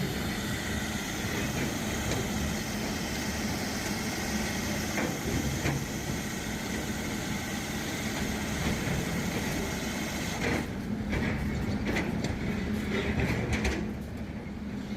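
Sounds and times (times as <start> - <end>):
heavy machinery engine humming: 0.0 - 14.9.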